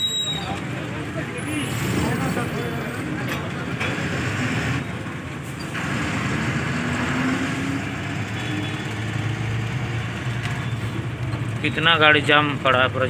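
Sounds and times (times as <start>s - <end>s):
road noise: 0.0s - 13.0s
truck engine running: 0.6s - 11.8s.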